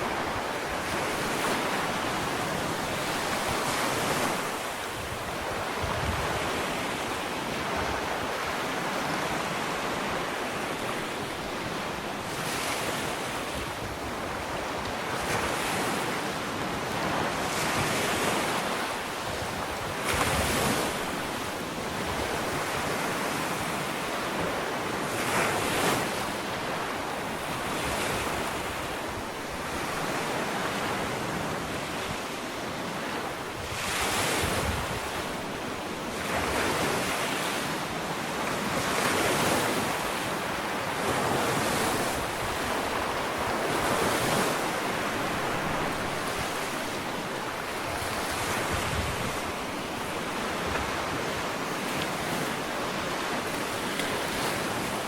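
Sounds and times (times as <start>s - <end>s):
ocean waves breaking on beach: 0.0s - 55.0s
wind on microphone: 0.0s - 55.0s.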